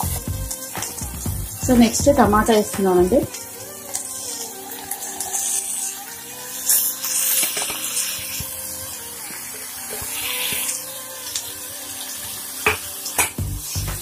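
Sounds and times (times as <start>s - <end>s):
tomatoes sizzling in hot oil: 0.0s - 14.0s.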